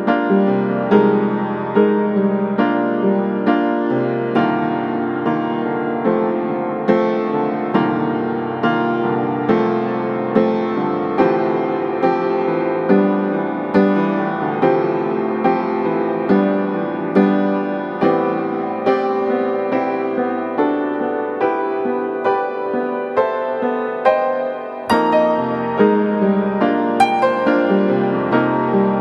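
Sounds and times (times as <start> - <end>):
slow piano music: 0.0 - 29.0.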